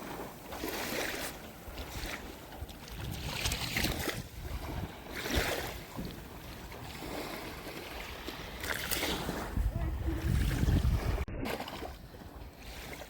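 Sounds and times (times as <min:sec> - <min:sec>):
sea waves washing in: 0:00.0 - 0:02.6, 0:03.2 - 0:13.0
wind rumble on microphone: 0:01.7 - 0:13.0.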